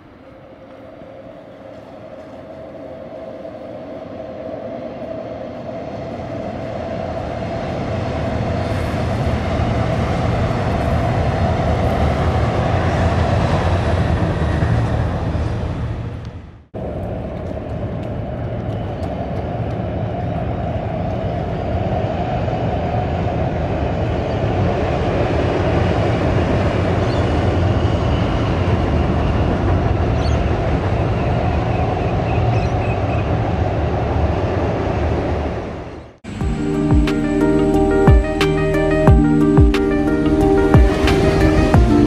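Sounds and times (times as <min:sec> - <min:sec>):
train wheels rumbling on bridge: 0:00.0 - 0:37.4.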